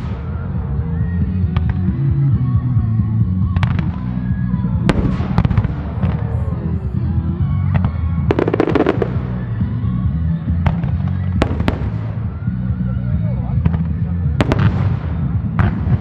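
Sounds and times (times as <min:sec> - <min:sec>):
fireworks crackling: 0:00.0 - 0:02.1, 0:03.3 - 0:16.0.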